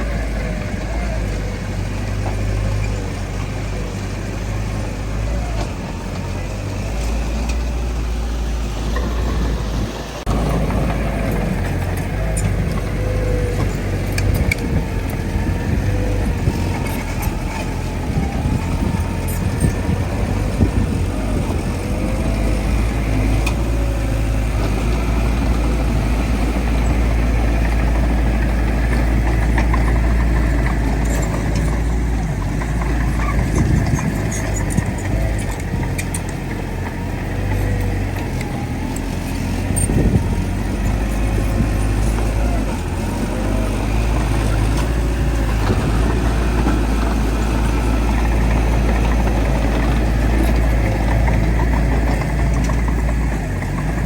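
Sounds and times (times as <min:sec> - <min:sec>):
bulldozer engine rumbling: 0:00.0 - 0:54.0.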